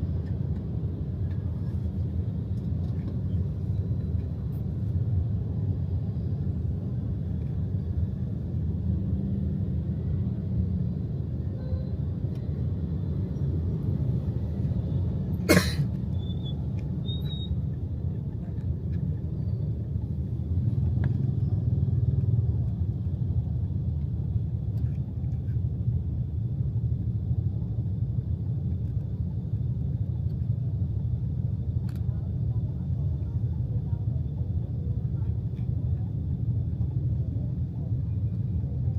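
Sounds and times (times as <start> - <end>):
vehicle rumble in traffic: 0.0 - 38.9.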